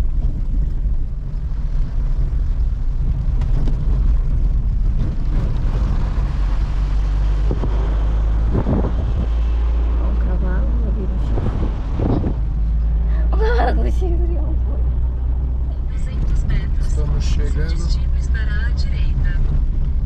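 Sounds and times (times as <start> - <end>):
car rumbling on dirt road: 0.0 - 20.0.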